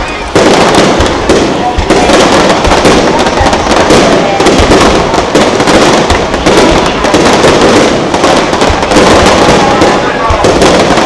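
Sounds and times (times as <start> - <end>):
fireworks bursting and crackling: 0.0 - 11.0.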